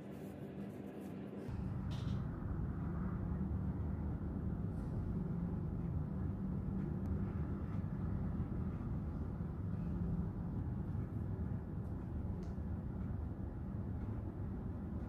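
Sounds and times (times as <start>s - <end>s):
low background rumble: 0.1s - 15.0s.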